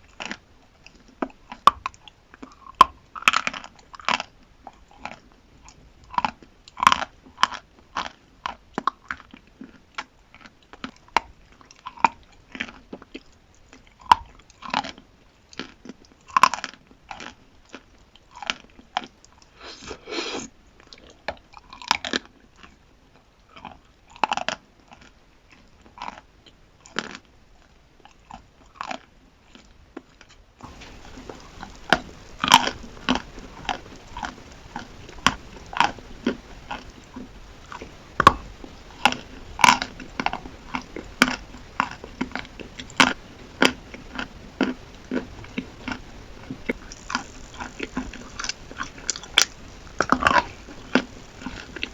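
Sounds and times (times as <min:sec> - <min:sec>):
faint steady hiss: 0:00.0 - 0:51.9
chewing chalk crunches: 0:00.1 - 0:20.1, 0:23.5 - 0:51.9.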